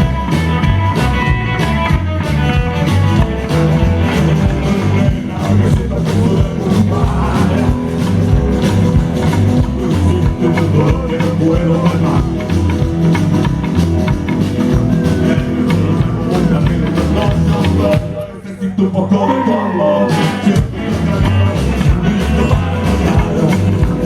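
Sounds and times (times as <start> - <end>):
steady drum beat: 0.0 - 18.3, 20.1 - 24.0
bass guitar: 0.0 - 24.0
rock guitar: 0.0 - 24.0.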